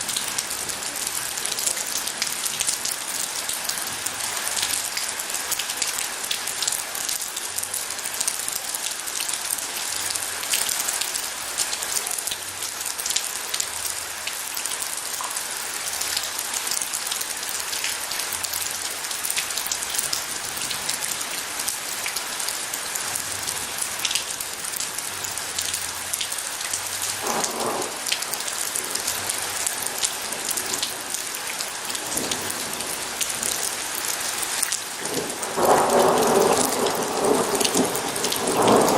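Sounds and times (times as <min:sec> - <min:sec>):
heavy rain: 0:00.0 - 0:38.9
raindrops ticking on a surface: 0:00.0 - 0:38.9.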